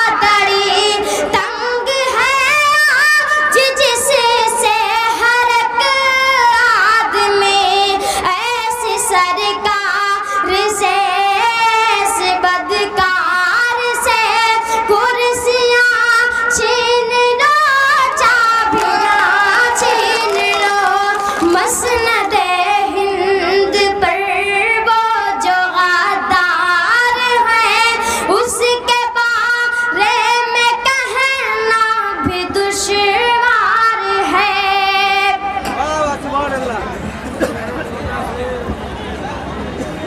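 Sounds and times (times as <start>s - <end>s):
boy singing into a microphone: 0.0s - 35.9s.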